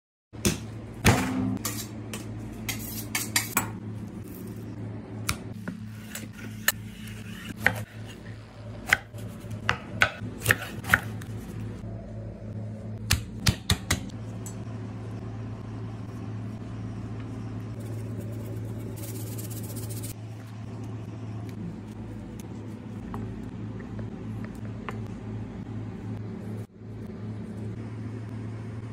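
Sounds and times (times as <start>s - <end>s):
steady low hum: 0.4s - 28.9s.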